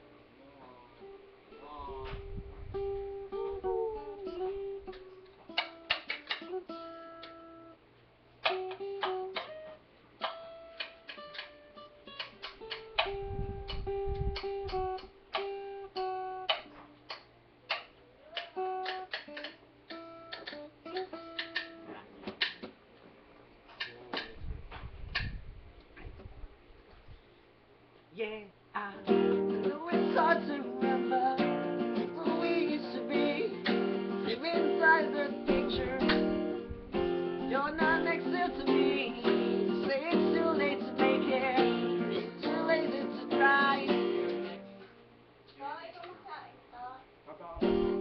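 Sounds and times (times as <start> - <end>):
acoustic guitar picked and strummed: 0.9 - 22.8, 28.9 - 45.1, 47.5 - 48.0.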